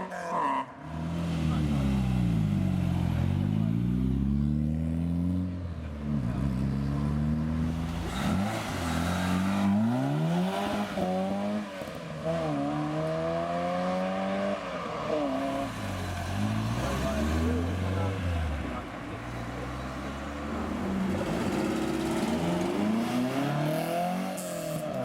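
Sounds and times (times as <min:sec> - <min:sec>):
car engine accelerating: 0:00.9 - 0:25.0.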